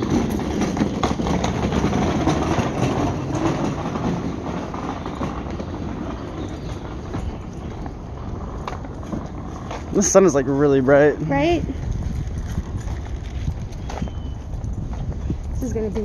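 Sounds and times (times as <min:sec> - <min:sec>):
handcart wheels rolling over pavement: 0:00.0 - 0:16.0.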